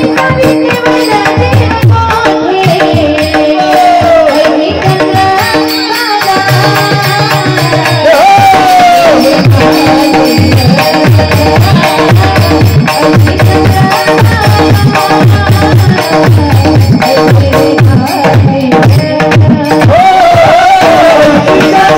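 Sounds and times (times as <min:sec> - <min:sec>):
tabla rhythm: 0:00.0 - 0:21.9
woman singing: 0:00.0 - 0:21.9.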